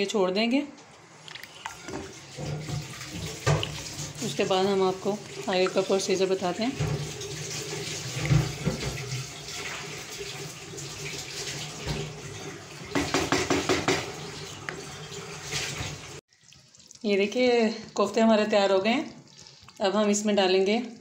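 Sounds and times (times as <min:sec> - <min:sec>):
spatula stirring and sloshing: 0:01.0 - 0:21.0
curry boiling in a pot: 0:01.7 - 0:14.8, 0:15.4 - 0:21.0.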